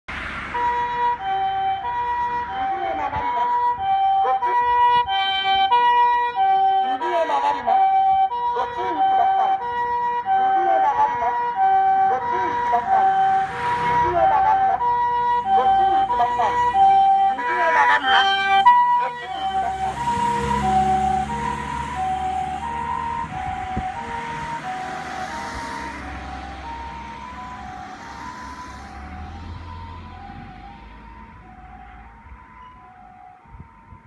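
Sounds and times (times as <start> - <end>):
vehicle noise: 0.0 - 34.0
two-tone ambulance siren: 0.1 - 34.0.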